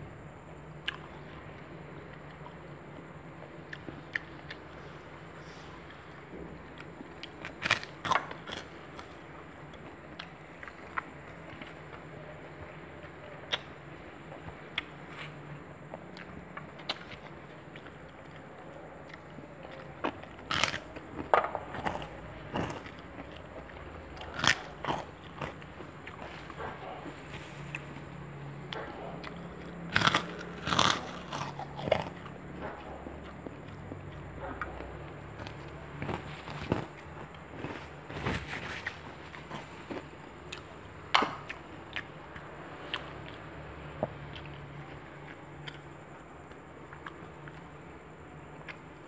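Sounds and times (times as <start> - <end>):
steady low hum: 0.0 - 49.0
person chewing and crunching: 0.8 - 47.8.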